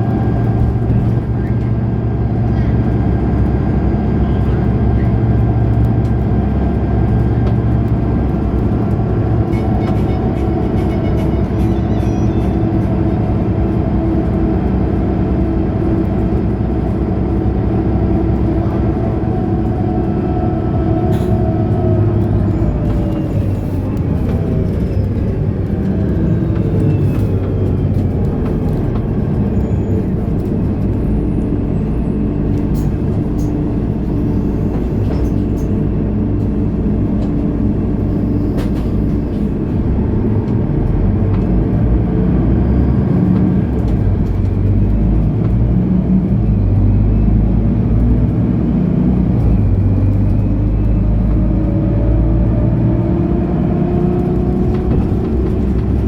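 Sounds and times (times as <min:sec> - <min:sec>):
bus diesel engine running: 0:00.0 - 0:56.0
bus drivetrain whine: 0:00.0 - 0:56.0.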